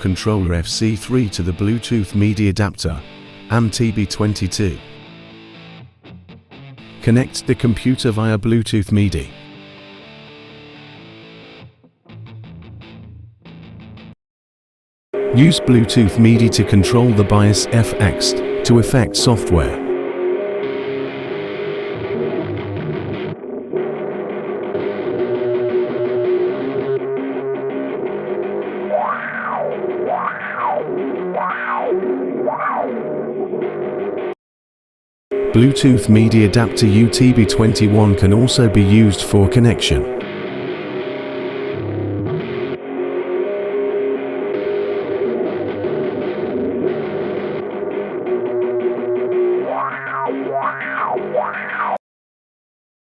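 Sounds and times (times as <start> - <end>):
distorted electric guitar: 0.0 - 8.3, 9.2 - 14.1, 15.2 - 34.4, 35.3 - 52.0.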